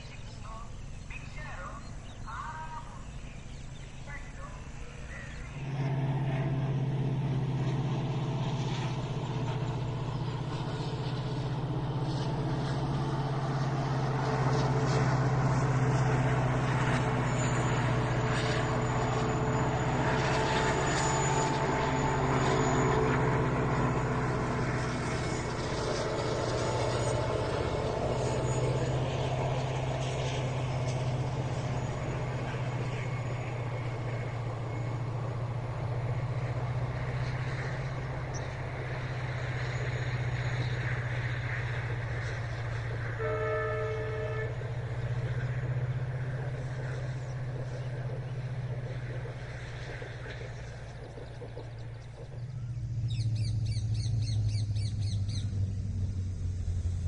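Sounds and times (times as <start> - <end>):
distant train rumbling: 0.0 - 57.0.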